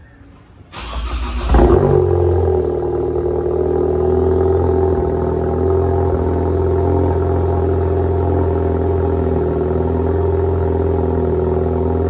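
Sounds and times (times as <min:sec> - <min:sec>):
car engine starting and idling: 0:00.7 - 0:12.0.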